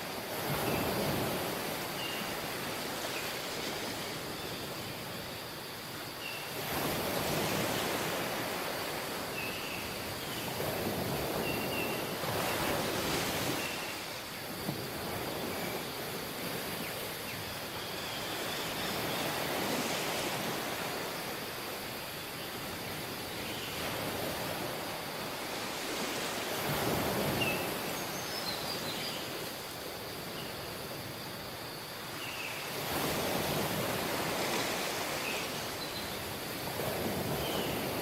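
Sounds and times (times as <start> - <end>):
sea waves washing onto beach: 0.0 - 5.5, 6.4 - 38.0.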